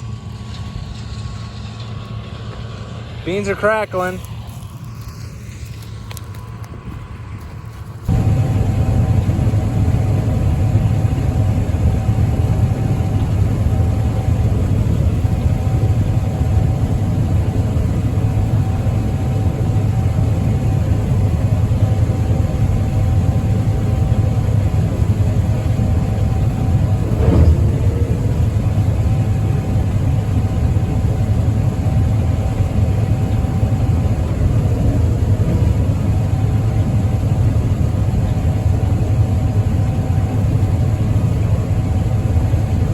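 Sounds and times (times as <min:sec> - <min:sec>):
combine harvester engine rumble: 0:00.0 - 0:42.9.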